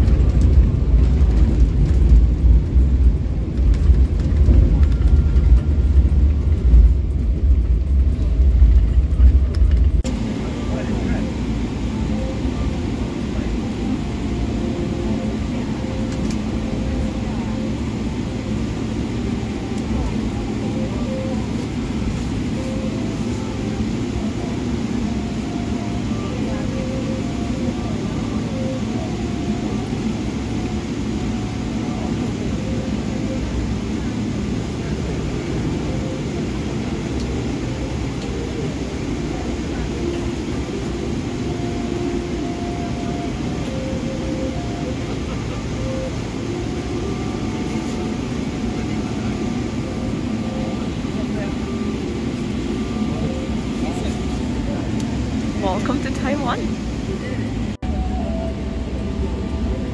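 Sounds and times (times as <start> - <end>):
airliner cabin drone: 0.0 - 59.9
faint indistinct voices: 8.1 - 59.9.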